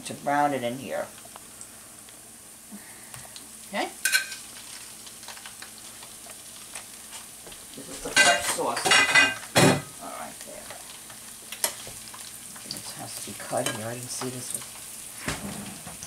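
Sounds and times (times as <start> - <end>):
sausages sizzling in oil: 0.0 - 16.0.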